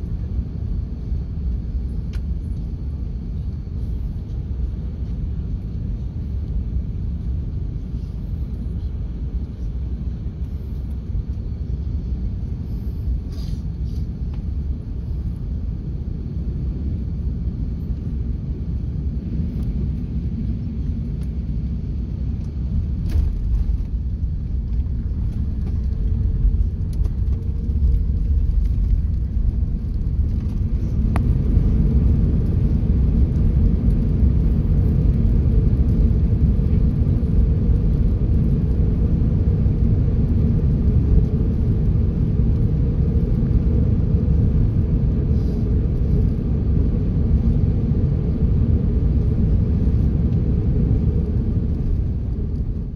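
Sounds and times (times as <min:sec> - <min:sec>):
low rumble inside aircraft cabin: 0:00.0 - 0:52.9.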